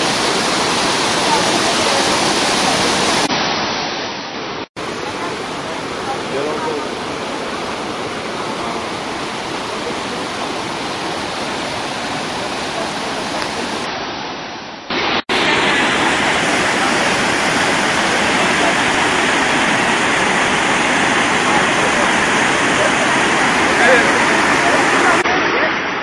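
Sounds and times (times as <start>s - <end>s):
waterfall and rapids rushing: 0.0s - 26.0s.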